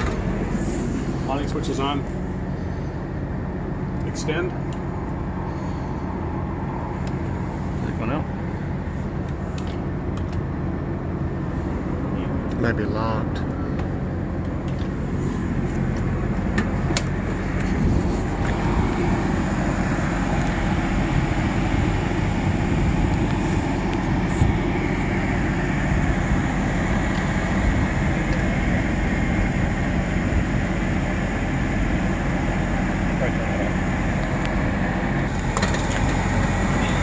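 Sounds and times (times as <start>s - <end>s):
generator humming: 0.0s - 37.0s.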